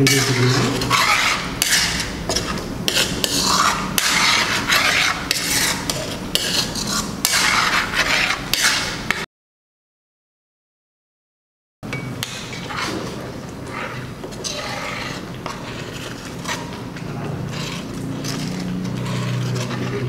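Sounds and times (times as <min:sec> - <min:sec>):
metal spoon scraping a wok: 0:00.0 - 0:09.2, 0:12.3 - 0:20.0.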